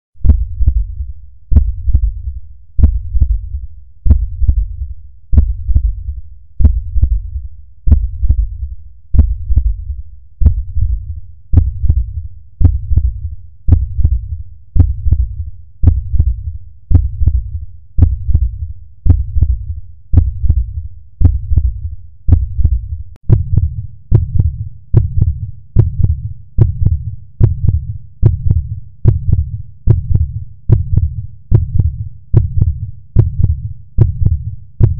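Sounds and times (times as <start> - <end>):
heartbeat thumps: 0.2 - 34.9.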